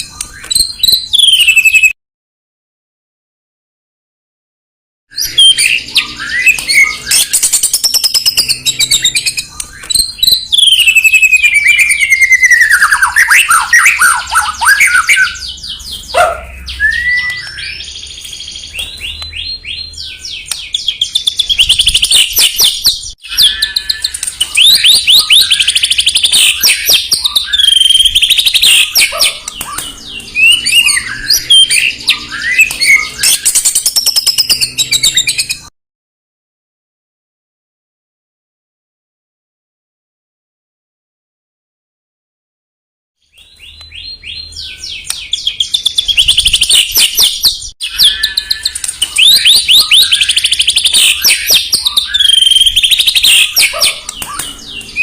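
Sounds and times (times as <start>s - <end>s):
songbird singing loudly: 0.0s - 2.0s, 5.2s - 35.7s, 43.2s - 55.0s.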